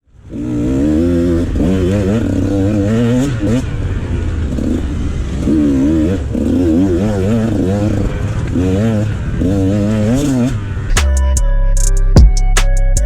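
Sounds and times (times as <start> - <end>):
dirt bike engine revving: 0.1 - 11.3.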